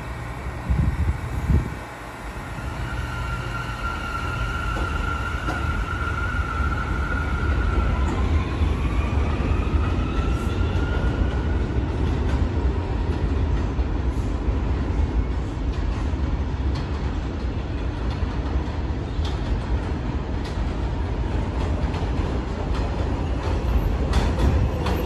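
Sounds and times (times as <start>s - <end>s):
train wheels rumbling on steel: 2.5s - 25.0s.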